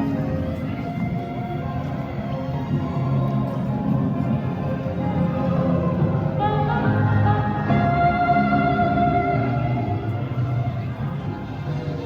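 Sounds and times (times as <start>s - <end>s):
music with long held note: 0.0s - 12.0s.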